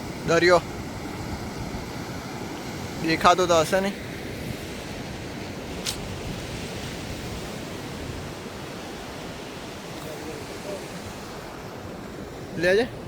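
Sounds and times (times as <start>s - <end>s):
ocean surf rushing: 0.0s - 13.0s.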